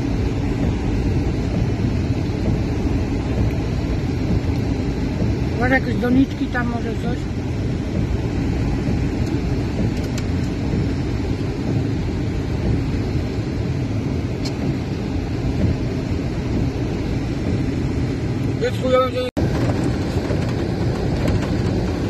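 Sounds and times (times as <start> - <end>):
wind buffeting microphone: 0.0 - 18.6, 19.4 - 22.0
wind and rain rushing: 0.0 - 22.0.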